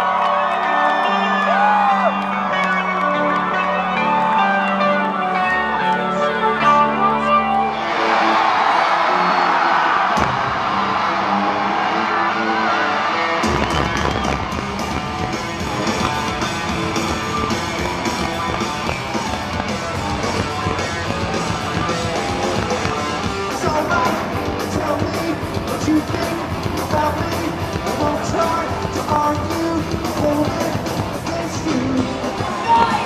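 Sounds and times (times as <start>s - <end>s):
live rock band playing: 0.1s - 8.6s, 10.1s - 33.0s.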